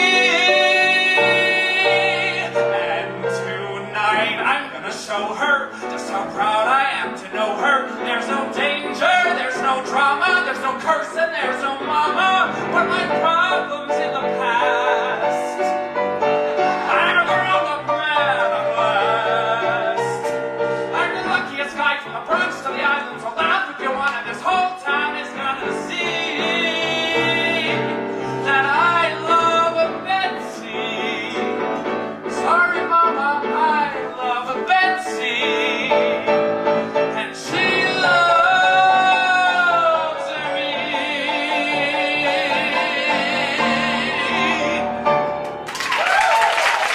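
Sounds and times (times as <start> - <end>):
person singing with vibrato: 0.0 - 45.2
instrumental accompaniment: 0.0 - 45.8.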